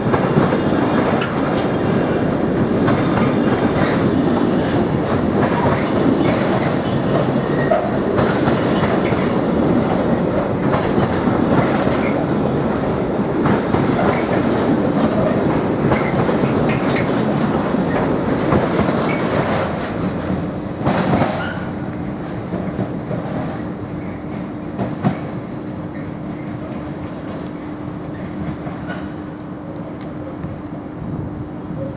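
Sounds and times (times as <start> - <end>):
train wheels clicking on rails: 0.0 - 31.9.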